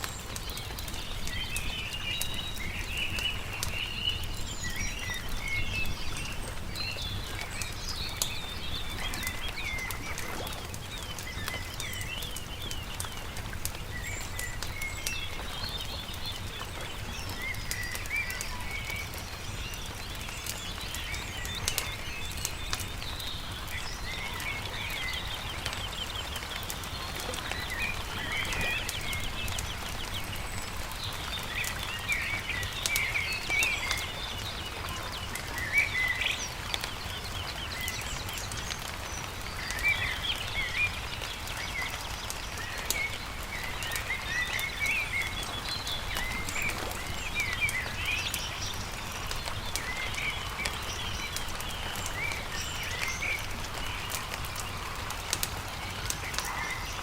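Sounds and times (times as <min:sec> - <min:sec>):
campfire crackling: 0:00.0 - 0:57.0
small songbirds chirping: 0:00.0 - 0:57.0.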